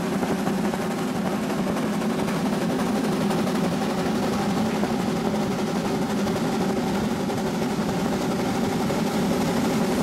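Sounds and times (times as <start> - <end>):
steam locomotive chugging: 0.0 - 10.0.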